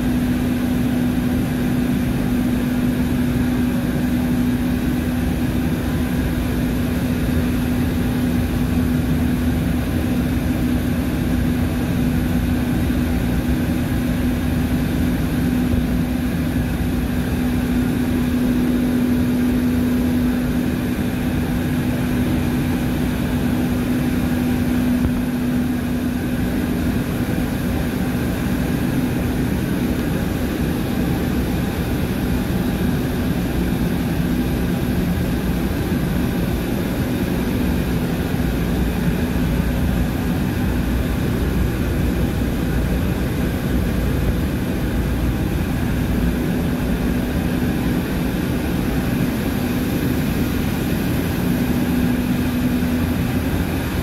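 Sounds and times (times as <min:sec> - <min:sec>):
diesel engine room drone: 0:00.0 - 0:54.0.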